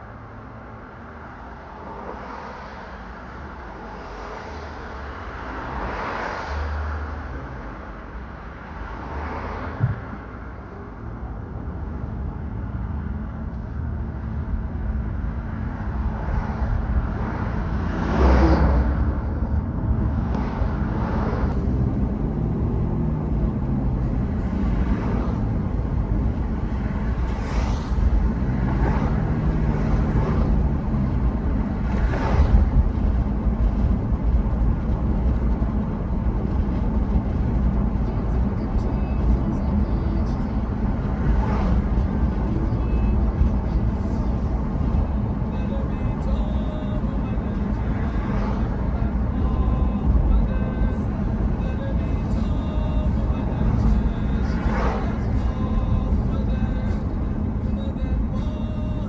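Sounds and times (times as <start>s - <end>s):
road traffic rumble: 0.0s - 59.0s
vehicles passing: 0.0s - 59.0s.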